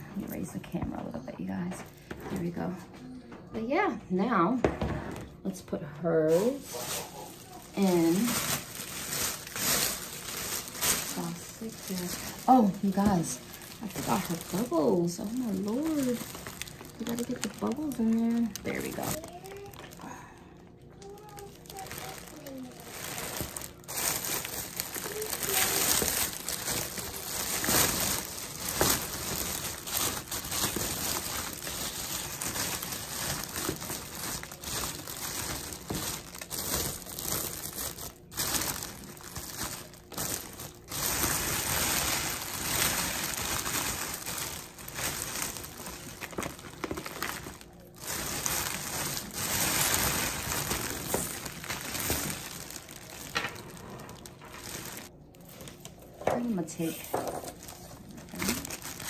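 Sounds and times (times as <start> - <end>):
cellophane crinkling and rustling: 0.0 - 59.0.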